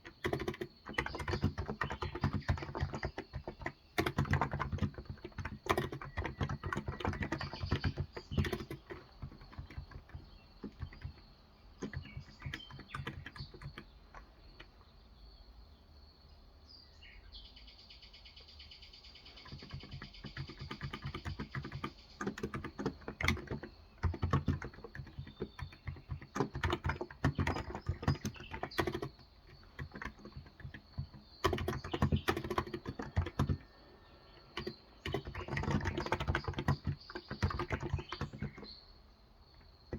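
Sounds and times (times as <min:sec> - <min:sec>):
soft keyboard keystrokes: 0:00.0 - 0:14.9, 0:19.4 - 0:38.7.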